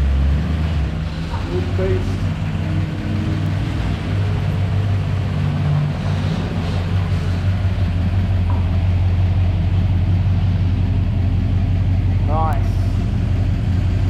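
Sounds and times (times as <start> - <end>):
car engine droning: 0.0 - 14.0
road noise: 0.0 - 14.0.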